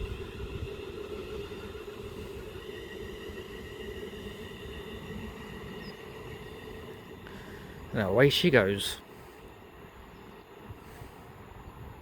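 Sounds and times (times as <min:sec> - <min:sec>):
electric train humming: 0:00.0 - 0:12.0
faint high whines: 0:00.0 - 0:12.0.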